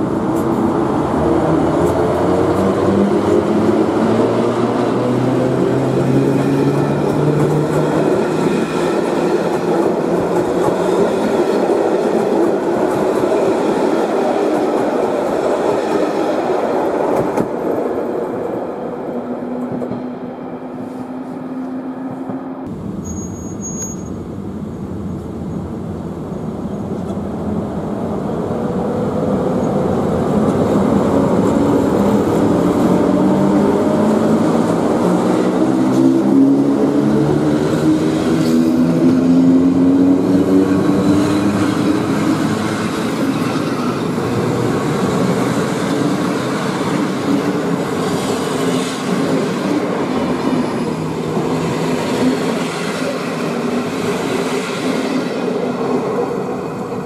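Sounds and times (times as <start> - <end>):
train coaches rolling on rails: 0.0 - 18.4, 29.4 - 57.0
electric locomotive hum rising: 0.0 - 57.0.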